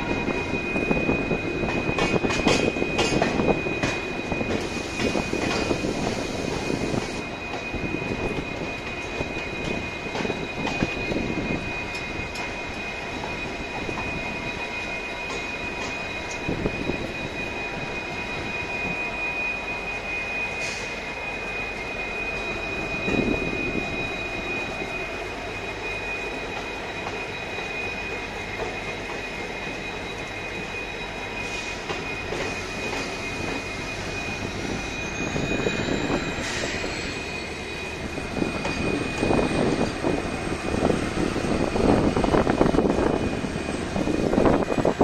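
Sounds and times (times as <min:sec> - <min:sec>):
steady high whine: 0:00.0 - 0:45.0
train coaches rolling past: 0:00.0 - 0:45.0
wheels rumbling and clattering on rails: 0:00.0 - 0:45.0.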